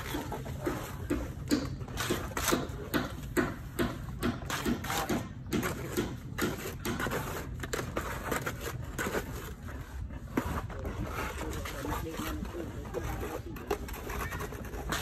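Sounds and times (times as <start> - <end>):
trowel scraping and slapping mortar: 0.0 - 15.0.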